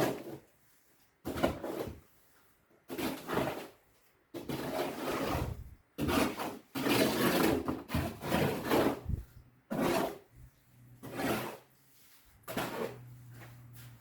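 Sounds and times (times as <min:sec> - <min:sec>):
rough scraping strokes: 0:00.0 - 0:14.0.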